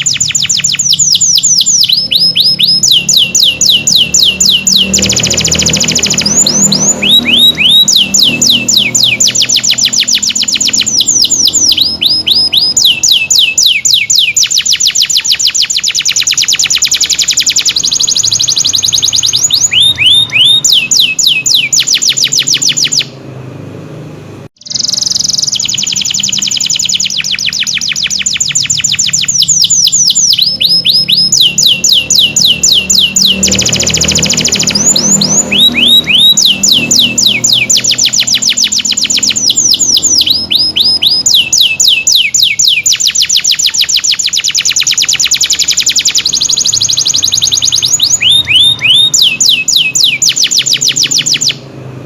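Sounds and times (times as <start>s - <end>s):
canary singing trills: 0.0s - 23.2s, 24.6s - 51.7s.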